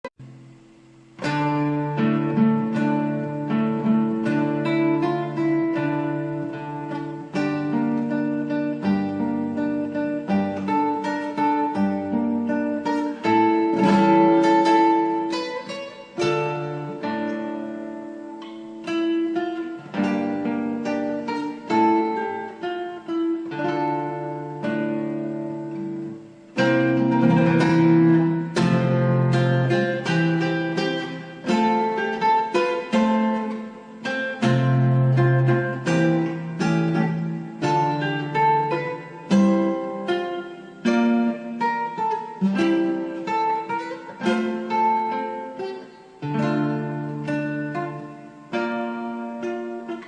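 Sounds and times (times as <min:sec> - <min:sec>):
guitar plucked and strummed: 0:00.0 - 0:50.0.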